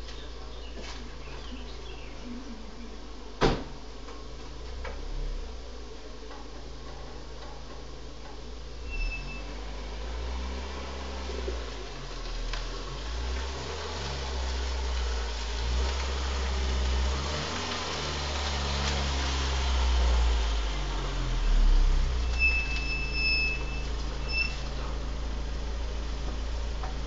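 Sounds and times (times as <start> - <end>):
car engine running: 3.0 - 27.0.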